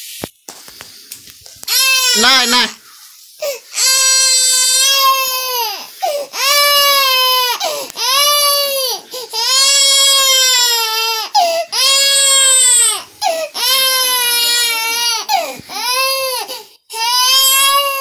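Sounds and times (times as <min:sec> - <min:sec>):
toddler crying: 0:01.7 - 0:02.4, 0:03.4 - 0:18.0.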